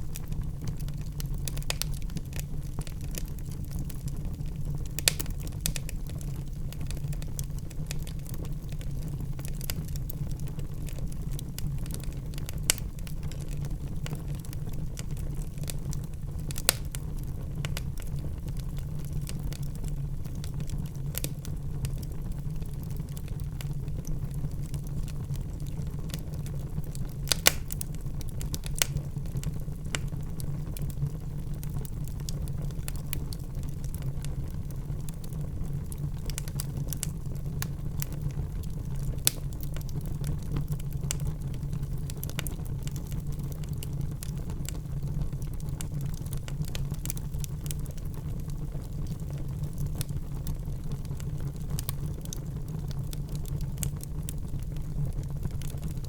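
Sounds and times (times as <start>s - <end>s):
fire crackling and popping: 0.0s - 56.0s
wood fire rumbling: 0.0s - 56.0s.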